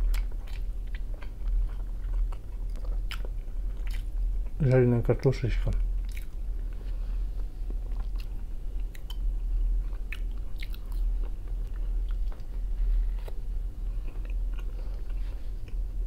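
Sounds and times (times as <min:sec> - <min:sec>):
man chewing: 0:00.0 - 0:04.6, 0:05.9 - 0:16.0
low hum: 0:00.0 - 0:16.0.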